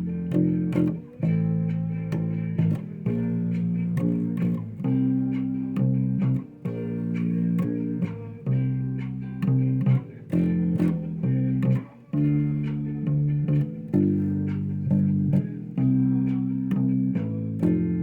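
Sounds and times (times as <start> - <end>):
electric bass plucked notes: 0.0 - 18.0.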